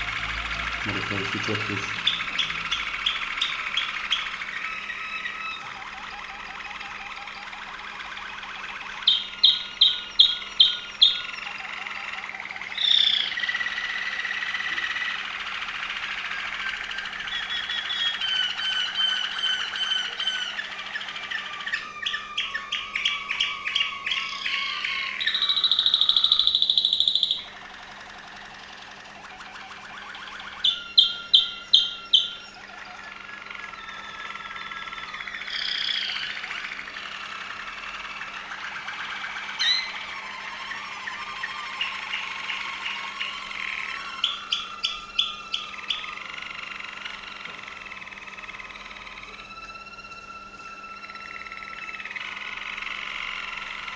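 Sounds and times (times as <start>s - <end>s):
canary singing trills and whistles: 0.0s - 53.9s.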